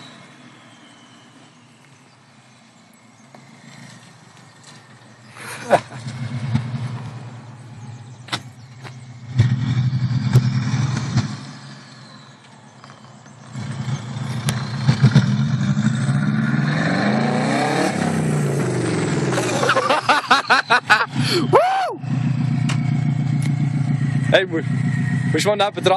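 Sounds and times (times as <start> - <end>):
car engine revving: 0.0 - 25.9
exhaust cracks: 3.2 - 25.9.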